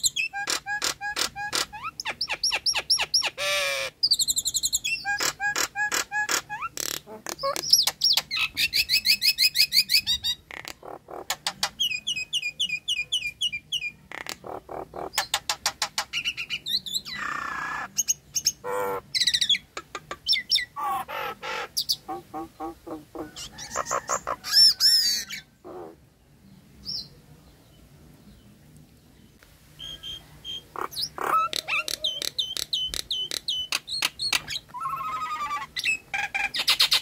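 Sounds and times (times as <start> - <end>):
myna bird calling: 0.0 - 26.2, 29.3 - 37.0.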